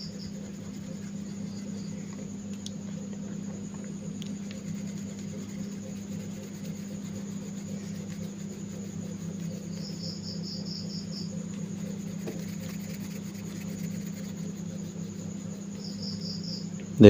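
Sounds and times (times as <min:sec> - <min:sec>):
insect trilling: 0:00.0 - 0:16.8
steady low hum: 0:00.0 - 0:17.0.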